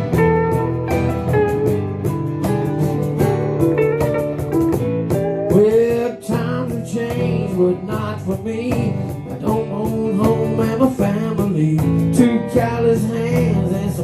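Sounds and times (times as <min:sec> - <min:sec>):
country guitars playing: 0:00.0 - 0:14.0.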